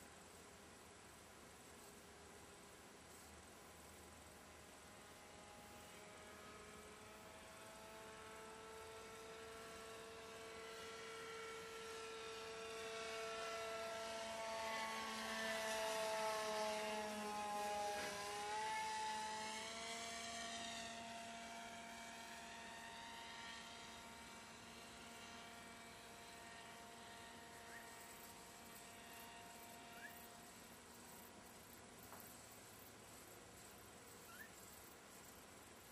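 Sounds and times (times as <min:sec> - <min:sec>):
model plane motor droning: 0:04.4 - 0:35.9.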